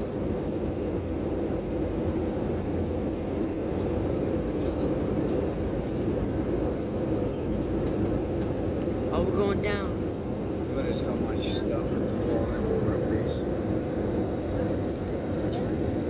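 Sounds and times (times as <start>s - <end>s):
jet engine rumble in cabin: 0.0s - 16.0s.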